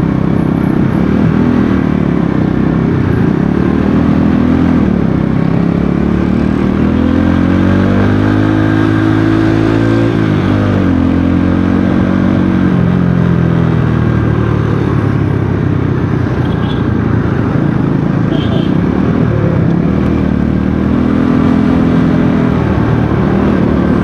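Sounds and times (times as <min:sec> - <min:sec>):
motorcycle engine: 0:00.0 - 0:24.0
road and wind noise: 0:00.0 - 0:24.0.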